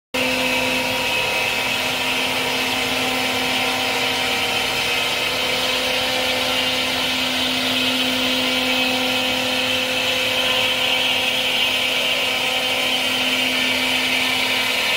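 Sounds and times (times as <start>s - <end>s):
router spindle whining: 0.2s - 14.9s.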